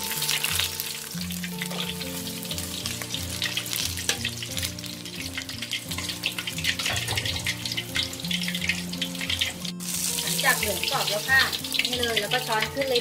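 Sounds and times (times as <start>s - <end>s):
pork deep-frying in oil: 0.0s - 13.0s.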